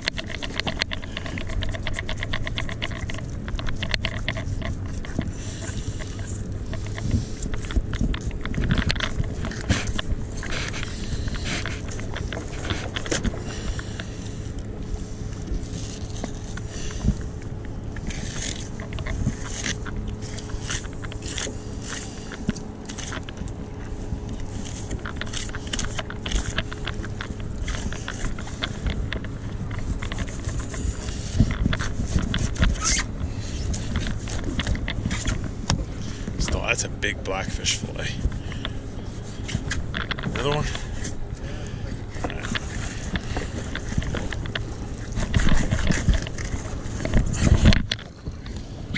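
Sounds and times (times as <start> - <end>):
low engine hum: 0.0 - 48.9.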